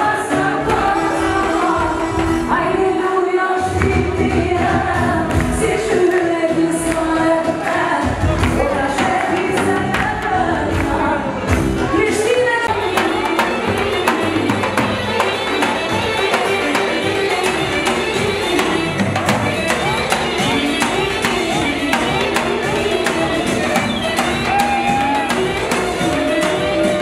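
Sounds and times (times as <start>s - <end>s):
woman singing with band: 0.0s - 27.0s
percussion beat: 0.4s - 3.0s, 3.7s - 27.0s.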